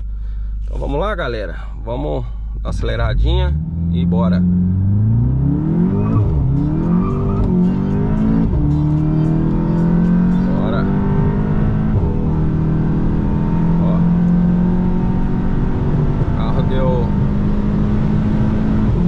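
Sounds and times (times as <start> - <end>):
car engine accelerating: 2.7 - 19.0.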